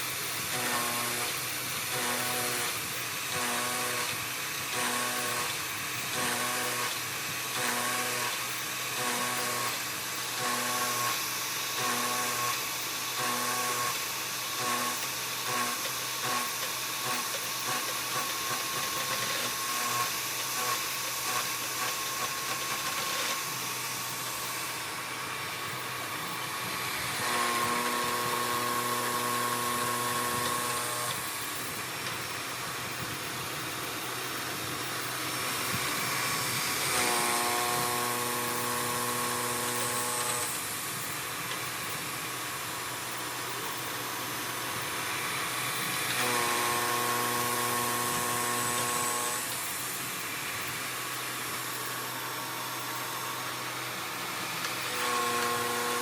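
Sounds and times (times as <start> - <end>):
cutting hiss: 0.0 - 56.0
milling machine motor whine: 0.0 - 56.0.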